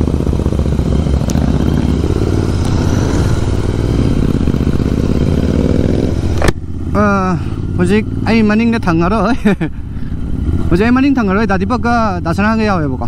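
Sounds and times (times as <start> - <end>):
motorcycle engines running: 0.0 - 13.0
road and wind noise hiss: 0.0 - 13.0.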